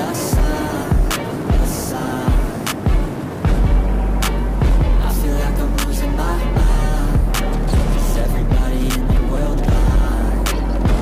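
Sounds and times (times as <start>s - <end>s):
music with heavy bass and drums: 0.0s - 11.0s.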